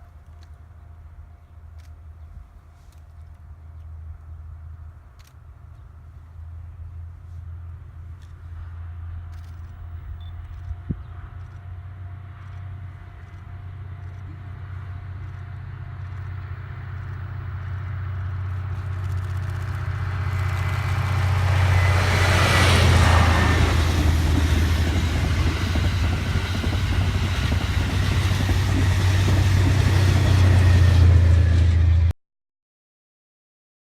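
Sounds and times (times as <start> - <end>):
train whine: 0.3 - 32.1
train passing: 0.4 - 10.2, 11.1 - 32.1
low drone: 0.7 - 32.1.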